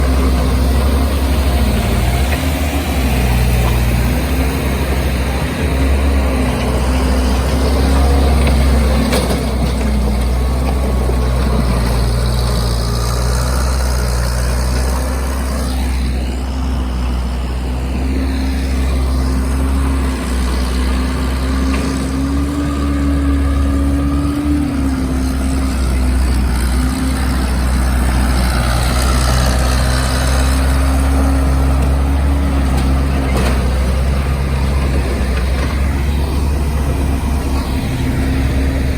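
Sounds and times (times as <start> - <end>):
diesel engine droning under load: 0.0 - 38.9.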